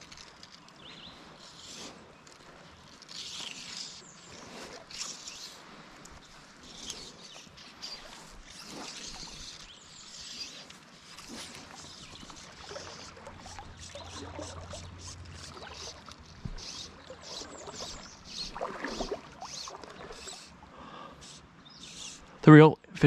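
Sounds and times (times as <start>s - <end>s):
fly line swishing through guides: 0.0s - 20.6s, 21.2s - 22.3s
faint lapping river water: 0.0s - 22.6s.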